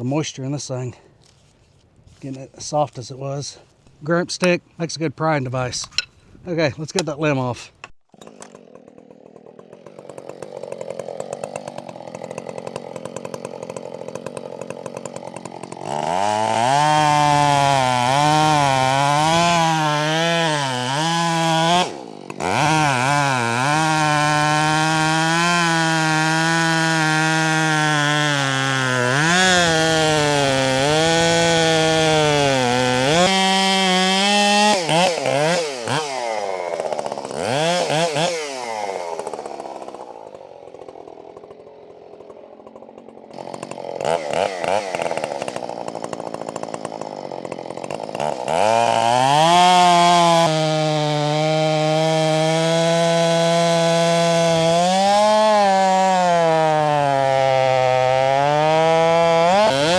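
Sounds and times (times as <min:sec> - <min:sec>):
chainsaw cutting wood: 0:01.1 - 0:04.7, 0:05.8 - 0:59.9.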